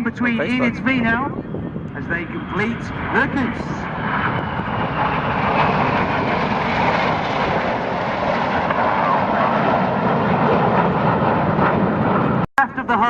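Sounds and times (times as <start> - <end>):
jets flying past: 0.4 - 12.4.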